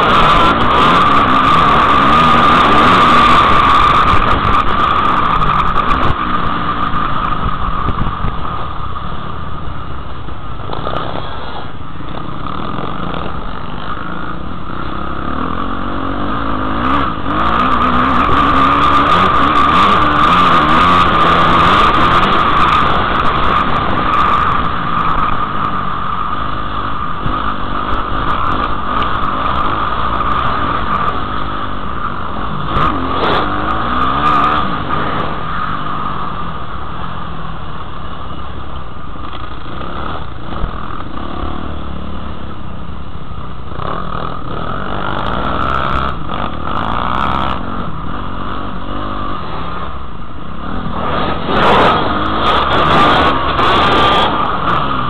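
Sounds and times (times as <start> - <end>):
dirt bike engine revving: 0.0 - 55.0
wind rumble: 0.0 - 55.0.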